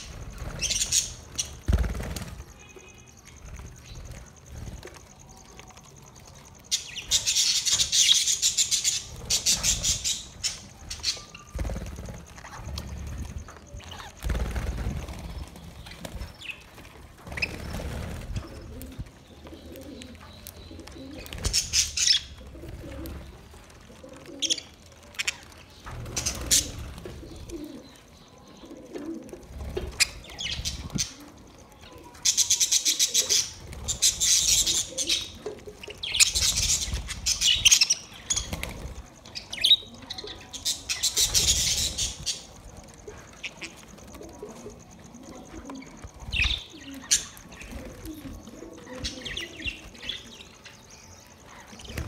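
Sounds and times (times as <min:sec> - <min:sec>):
budgerigars chirping and chattering: 0:00.0 - 0:02.4, 0:06.4 - 0:16.7, 0:17.3 - 0:22.5, 0:24.4 - 0:27.9, 0:29.4 - 0:52.0
wings flapping: 0:00.0 - 0:20.2, 0:20.8 - 0:27.8, 0:32.2 - 0:39.8, 0:40.5 - 0:50.4, 0:51.7 - 0:52.0.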